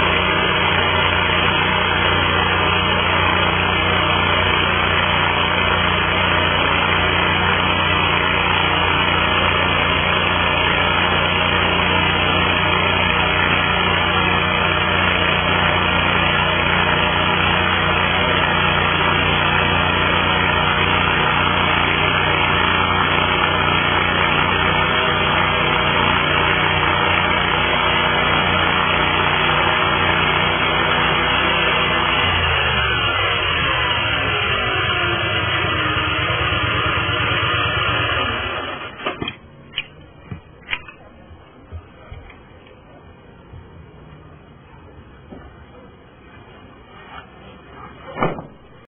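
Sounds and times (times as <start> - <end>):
chainsaw engine running steadily: 0.0 - 42.5.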